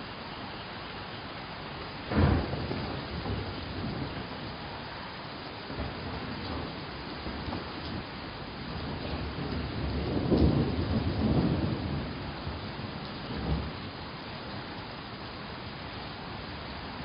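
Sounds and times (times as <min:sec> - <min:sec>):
steady rain: 0:00.0 - 0:17.0
thunder rumbling: 0:02.0 - 0:16.4.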